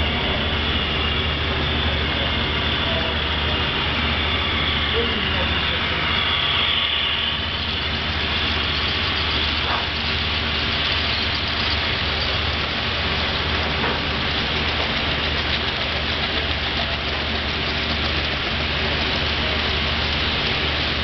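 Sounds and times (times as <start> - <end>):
model train cars rolling on track: 0.0 - 21.0.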